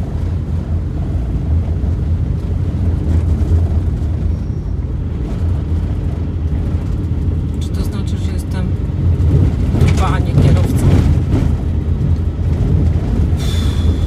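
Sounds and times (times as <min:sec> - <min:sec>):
car driving on rough dirt road: 0:00.0 - 0:14.0.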